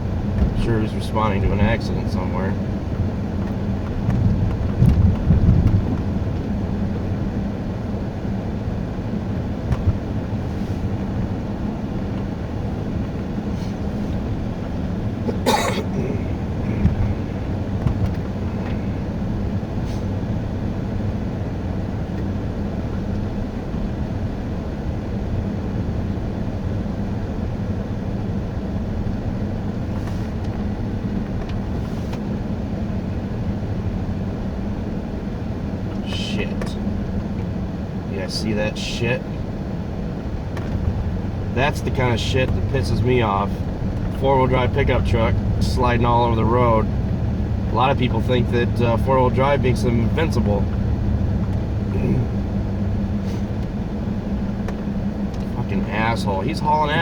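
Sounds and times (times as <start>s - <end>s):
car engine and tyre drone: 0.0s - 57.0s.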